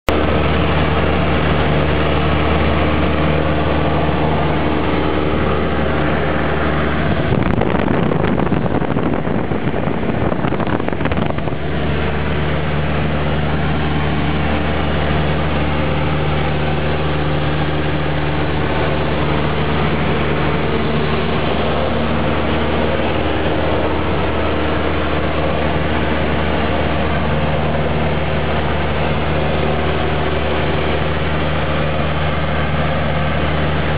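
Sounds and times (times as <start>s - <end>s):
propeller plane engine droning: 0.0s - 33.9s.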